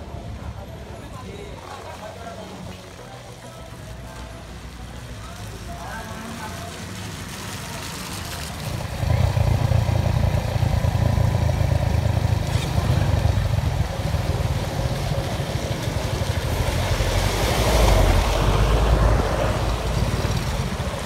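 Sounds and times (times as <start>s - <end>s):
motorcycle engines passing: 0.0s - 21.0s
truck engine rumble: 0.0s - 21.0s.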